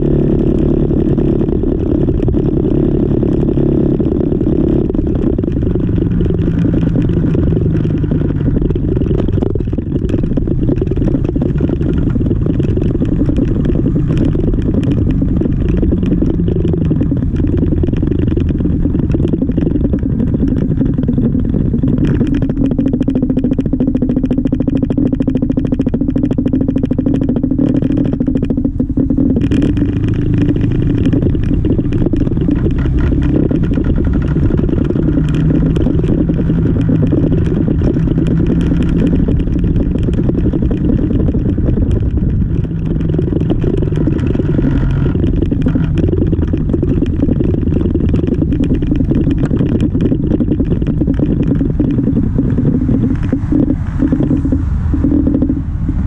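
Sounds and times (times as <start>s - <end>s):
scooter engine running: 0.0s - 56.0s
wind noise on microphone: 0.0s - 56.0s.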